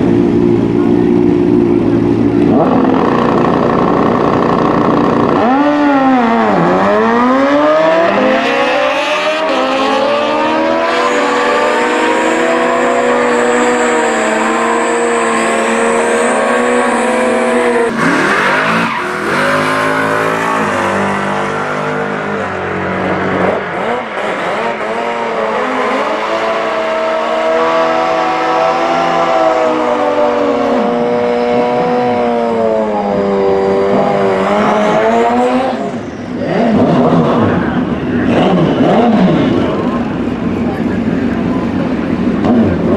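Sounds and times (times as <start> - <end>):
motorcycle engine revving: 0.0 - 42.9
sport bike engines accelerating: 0.0 - 42.9.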